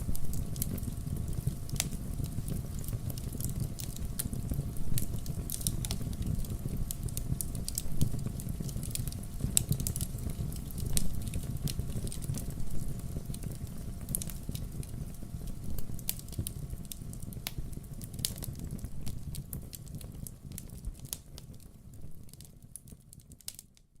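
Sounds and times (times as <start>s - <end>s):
fire crackling and popping: 0.0s - 23.9s
low rumble of flames: 0.0s - 23.9s.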